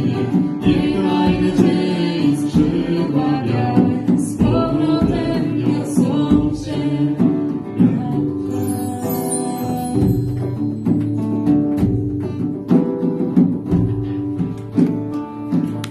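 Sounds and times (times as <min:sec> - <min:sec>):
band music with guitar and bass: 0:00.0 - 0:15.9.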